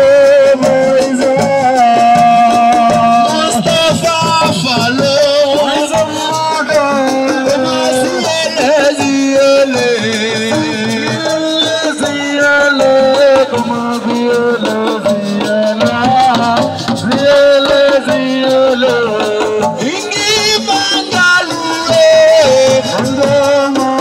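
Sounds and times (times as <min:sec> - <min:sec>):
hand drum and shaker rhythm: 0:00.0 - 0:24.0
live band music: 0:00.0 - 0:24.0.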